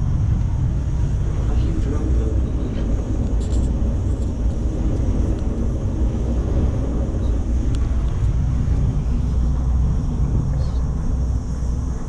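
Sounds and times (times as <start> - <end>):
cable car low rumble: 0.0 - 12.0.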